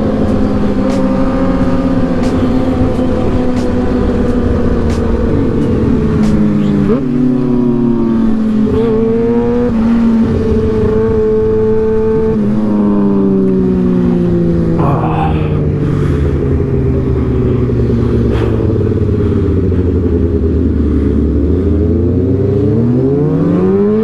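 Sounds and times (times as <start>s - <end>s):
vehicle engine running: 0.0s - 23.4s
wind and road noise: 0.0s - 24.0s.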